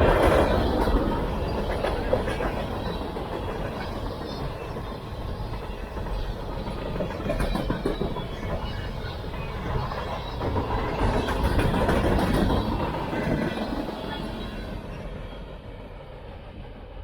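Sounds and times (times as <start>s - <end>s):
freight train rolling on rails: 0.0s - 17.0s.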